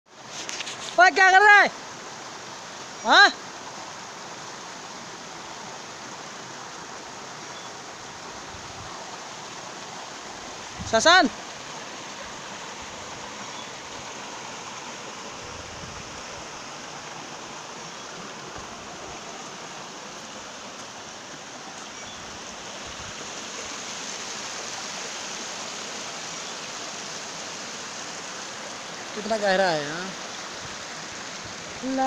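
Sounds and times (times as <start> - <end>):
stream running over stones: 0.1 - 32.0.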